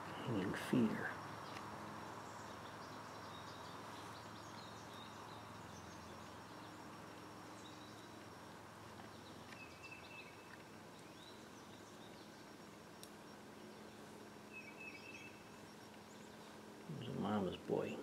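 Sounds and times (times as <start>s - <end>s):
faint bird calls chirping: 0.0s - 18.0s
low steady hum: 0.0s - 18.0s.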